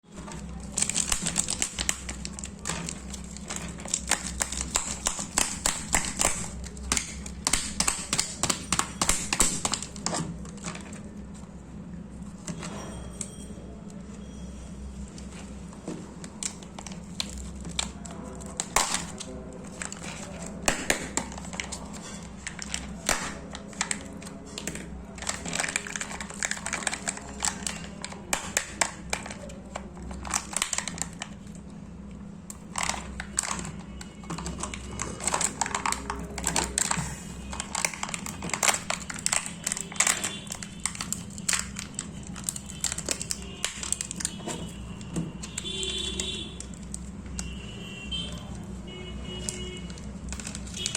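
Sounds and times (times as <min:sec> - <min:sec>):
plastic wrappers crinkling: 0:00.0 - 0:13.3, 0:15.0 - 0:50.9.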